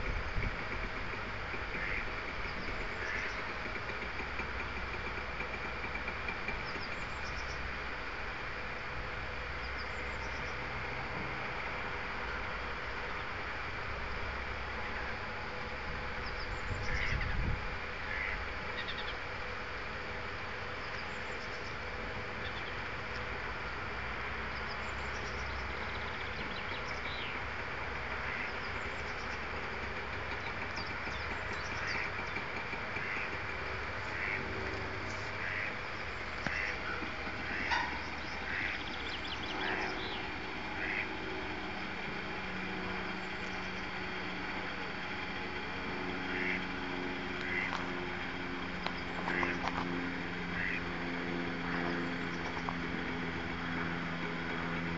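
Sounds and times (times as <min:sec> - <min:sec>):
electric drive humming: 0:00.0 - 0:54.9.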